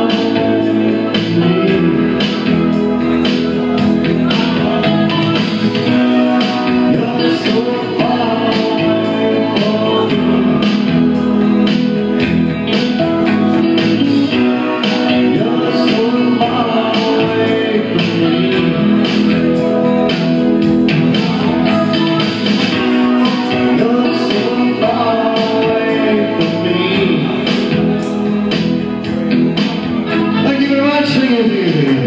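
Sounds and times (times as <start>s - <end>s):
guitar: 0.0s - 32.0s
steady drum beat: 0.0s - 32.0s.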